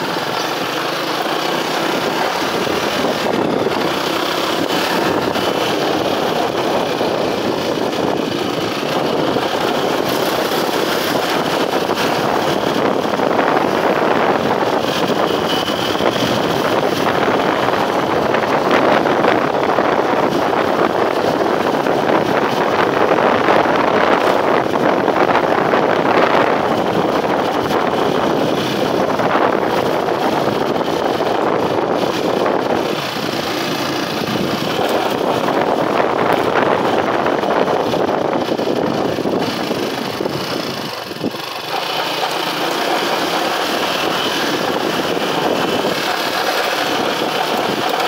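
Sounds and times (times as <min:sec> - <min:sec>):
motorcycle engine running: 0:00.0 - 0:48.0
wind rushing over microphone: 0:00.0 - 0:48.0.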